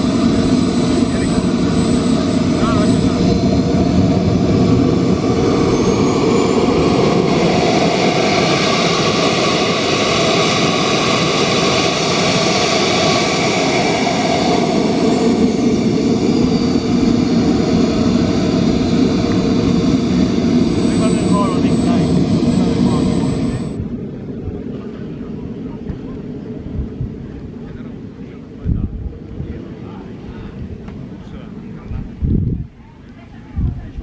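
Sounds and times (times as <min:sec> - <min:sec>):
small turbine engine whining: 0:00.0 - 0:32.4.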